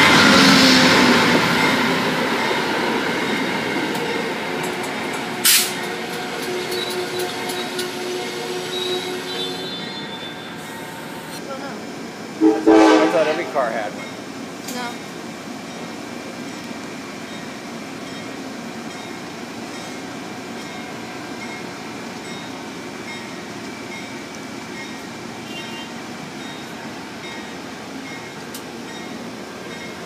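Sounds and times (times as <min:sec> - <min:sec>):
train wheels rushing on rails: 0:00.0 - 0:30.0.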